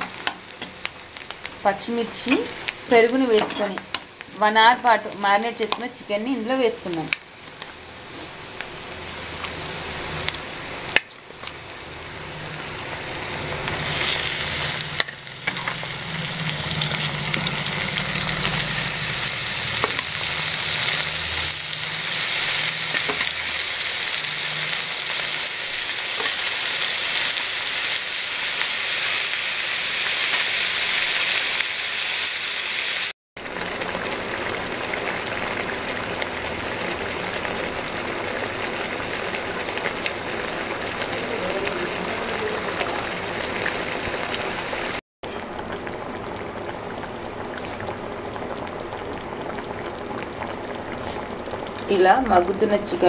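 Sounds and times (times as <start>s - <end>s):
food sizzling in hot oil: 0.0s - 53.0s.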